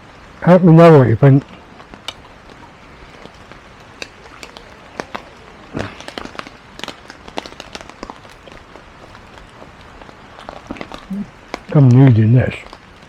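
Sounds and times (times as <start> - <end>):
campfire crackling: 0.0 - 13.0
light rain pattering: 0.0 - 13.0.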